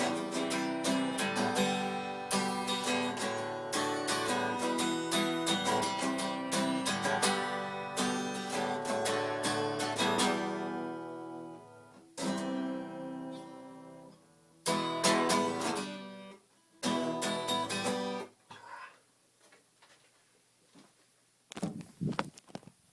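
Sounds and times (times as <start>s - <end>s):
acoustic guitar strumming: 0.0s - 18.4s.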